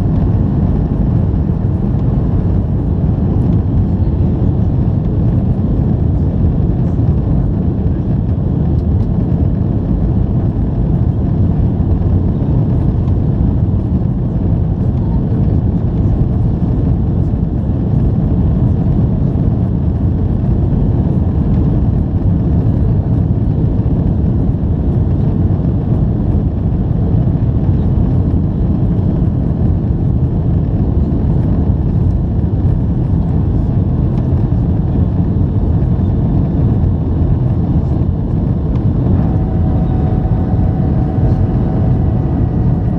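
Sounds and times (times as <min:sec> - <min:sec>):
jet engines rumbling: 0:00.0 - 0:42.9.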